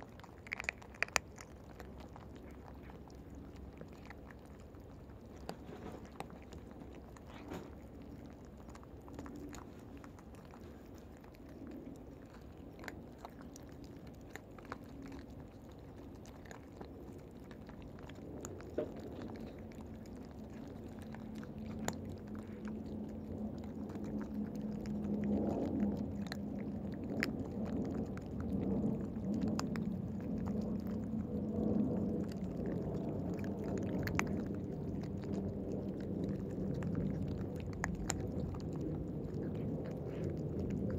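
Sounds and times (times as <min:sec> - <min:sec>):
cats crunching and chewing: 0:00.0 - 0:40.9
low hum from cats: 0:00.0 - 0:40.9.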